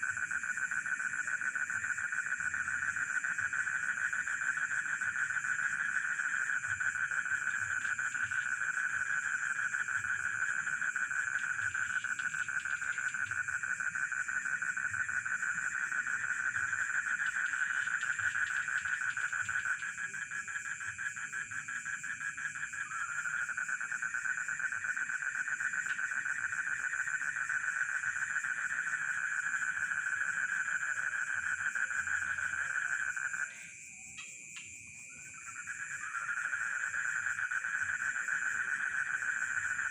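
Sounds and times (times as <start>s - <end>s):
crickets chirping: 0.0s - 39.9s
frogs trilling: 0.0s - 39.9s.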